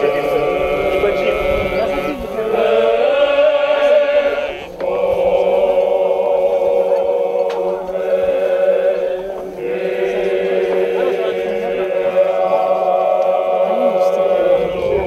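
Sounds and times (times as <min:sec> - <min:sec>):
voices singing slow chant: 0:00.0 - 0:15.0.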